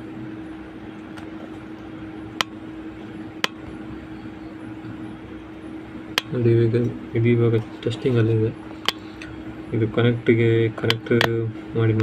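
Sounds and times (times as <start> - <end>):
whirring hum: 0.0 - 12.0.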